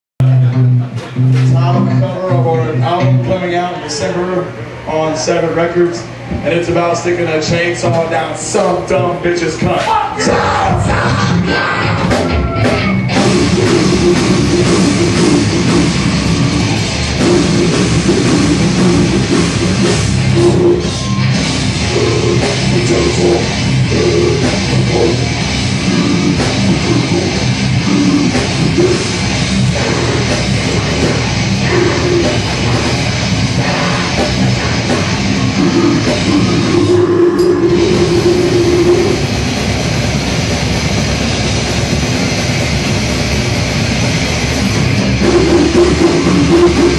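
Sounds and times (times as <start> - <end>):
death metal band playing: 0.2 - 46.9.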